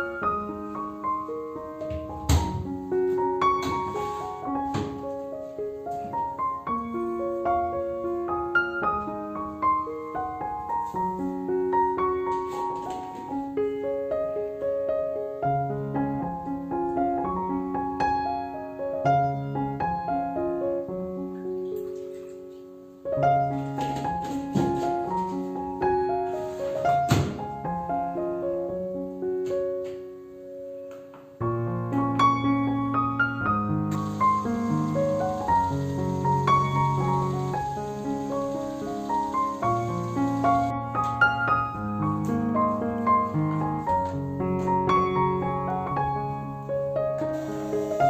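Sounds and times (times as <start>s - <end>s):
calm piano music: 0.0s - 48.0s.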